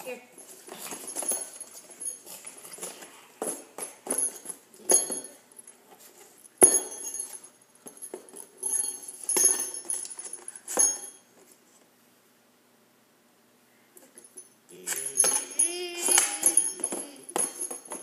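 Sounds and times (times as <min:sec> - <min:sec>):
small metal bells clinking: 0:00.1 - 0:05.8, 0:06.4 - 0:11.3, 0:14.2 - 0:18.0.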